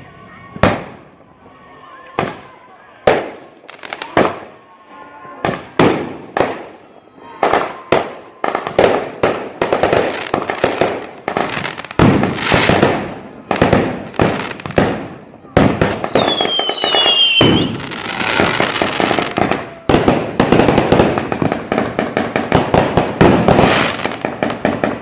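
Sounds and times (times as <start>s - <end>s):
fireworks bangs and crackle: 0.4s - 4.6s, 5.2s - 25.0s.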